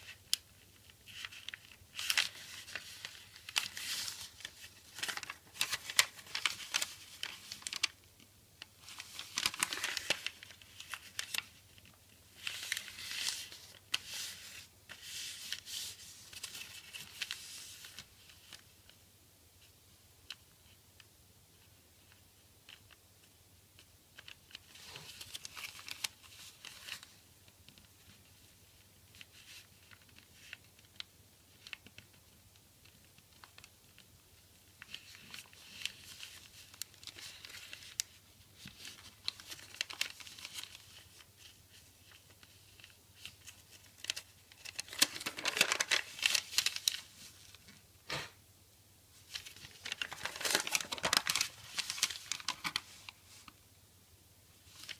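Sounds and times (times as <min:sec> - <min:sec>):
paper rustling and crinkling: 0:00.0 - 0:19.0, 0:24.2 - 0:47.8, 0:49.2 - 0:53.6, 0:54.6 - 0:54.9.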